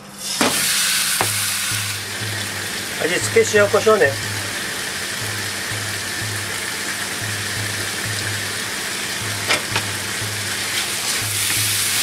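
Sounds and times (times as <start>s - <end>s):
chicken sizzling in frying pan: 0.2s - 12.0s.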